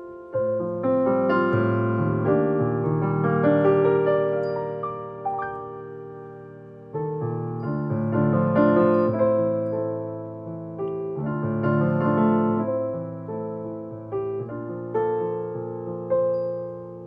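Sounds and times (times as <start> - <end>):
slow piano chords and melody: 0.0 - 17.0.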